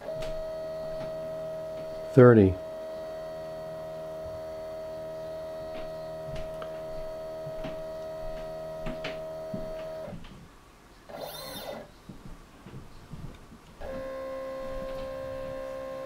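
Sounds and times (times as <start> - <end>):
stepper motor whine: 0.0 - 10.2, 11.1 - 11.9, 13.8 - 16.0.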